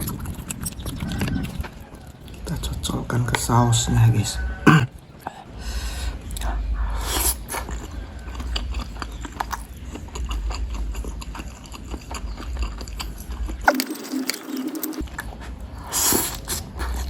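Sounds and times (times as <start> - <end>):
chewing and wet mouth sounds: 0.0 - 4.1, 5.0 - 17.0.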